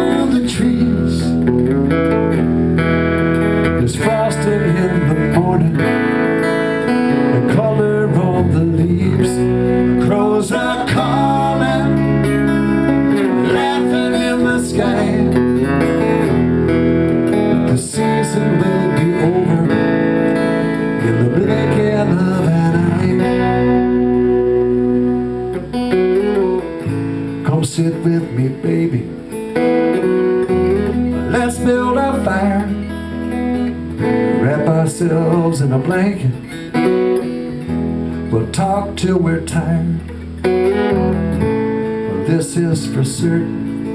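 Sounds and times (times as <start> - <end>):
electric bass notes: 0.0 - 43.9
electric guitar playing: 0.0 - 43.9.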